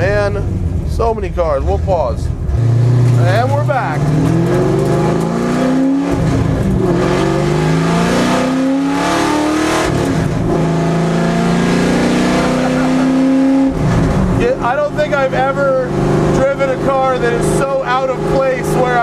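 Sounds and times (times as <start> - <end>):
race car engine accelerating: 0.3 - 19.0.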